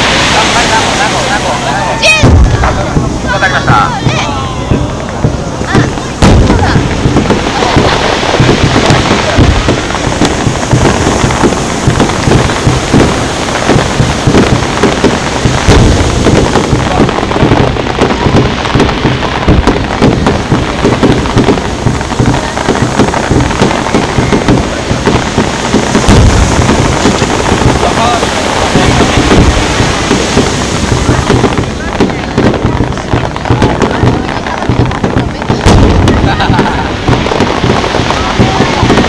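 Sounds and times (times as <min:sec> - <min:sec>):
underwater fireworks bursting: 0:00.0 - 0:39.0.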